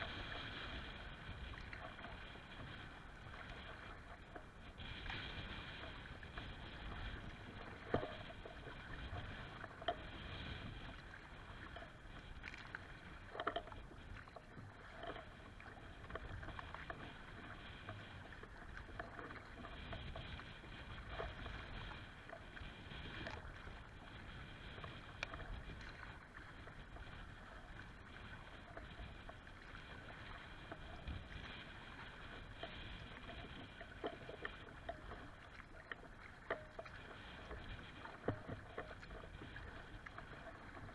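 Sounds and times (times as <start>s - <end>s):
water lapping against kayak hull: 0.0s - 40.9s.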